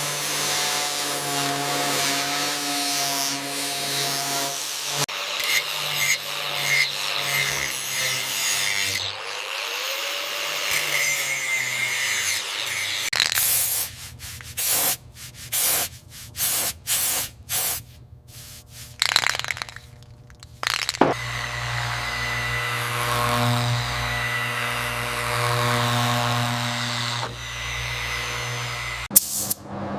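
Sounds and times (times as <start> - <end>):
abrasive sanding rasp: 0.0 - 18.9, 21.2 - 29.1.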